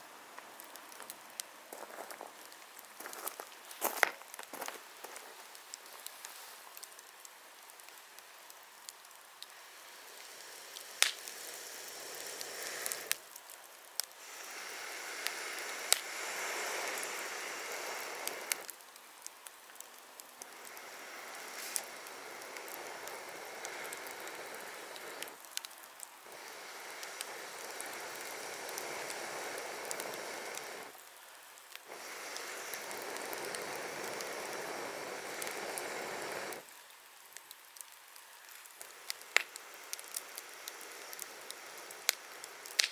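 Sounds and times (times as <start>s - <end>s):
campfire crackling and popping: 0.0s - 42.9s
steady rushing hiss: 0.0s - 42.9s.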